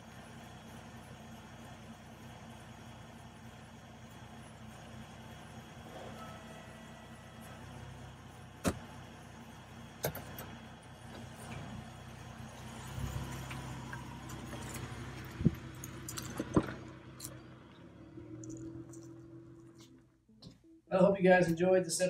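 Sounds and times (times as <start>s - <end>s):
car engine humming: 0.0s - 20.6s.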